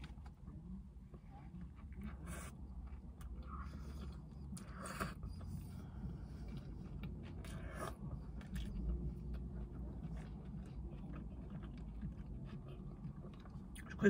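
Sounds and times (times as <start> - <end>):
steady low hum: 0.0 - 14.0
person chewing food: 1.6 - 13.9.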